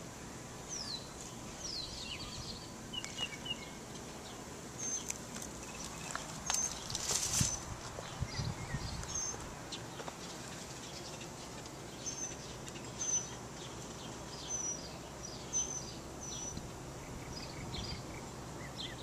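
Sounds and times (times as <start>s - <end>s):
small birds chirping: 0.0s - 19.0s
steady outdoor hiss: 0.0s - 19.0s.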